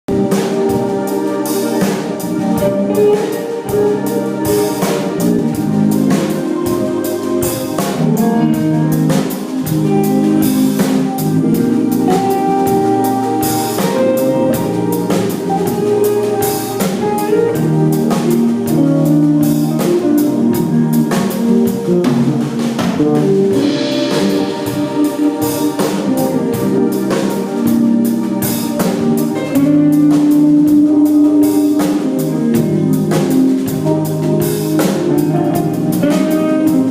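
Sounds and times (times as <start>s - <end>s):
band playing music: 0.1s - 36.9s
drum kit steady beat: 0.1s - 36.9s.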